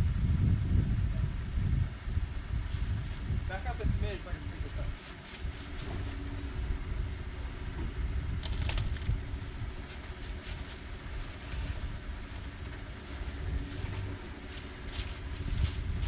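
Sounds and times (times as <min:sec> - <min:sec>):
truck engine running low: 0:00.0 - 0:16.0.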